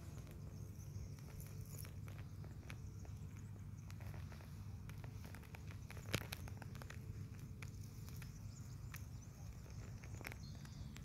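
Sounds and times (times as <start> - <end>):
dry vegetation crackling underfoot: 0.0 - 11.0
steady low rumble: 0.0 - 11.0.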